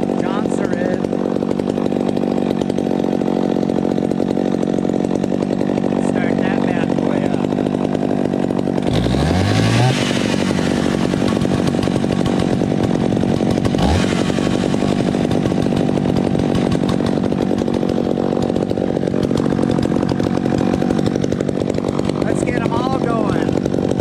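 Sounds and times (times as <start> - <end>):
loud chainsaw running: 0.0 - 24.0.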